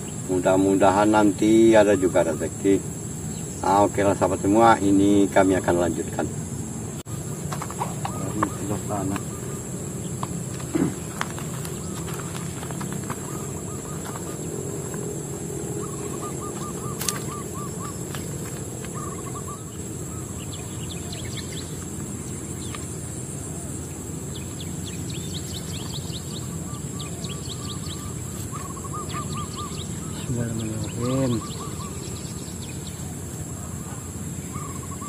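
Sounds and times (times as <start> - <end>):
birds chirping: 0.0 - 35.0
outdoor background noise: 0.0 - 35.0.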